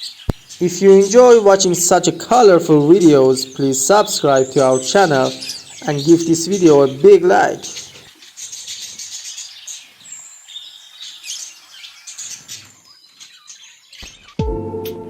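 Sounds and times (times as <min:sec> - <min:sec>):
budgerigars chirping: 0:00.0 - 0:14.4.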